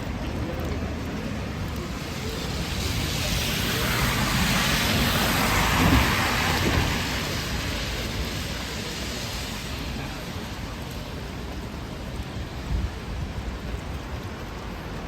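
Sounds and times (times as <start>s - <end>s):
rain hissing on street: 0.0s - 15.0s.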